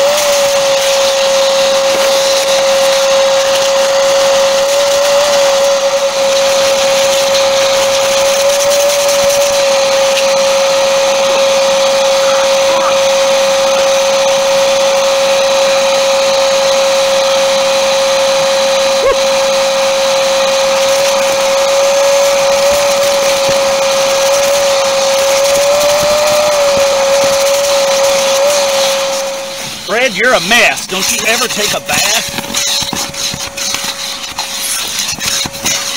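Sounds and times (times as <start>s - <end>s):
shop vacuum running: 0.0s - 35.9s.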